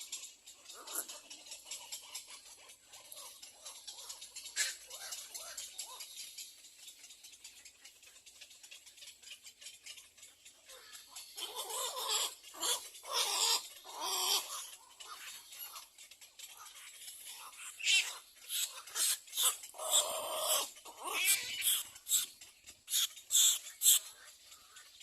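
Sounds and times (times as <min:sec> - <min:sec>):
egret chicks begging calls: 0:00.2 - 0:06.6, 0:08.5 - 0:25.0.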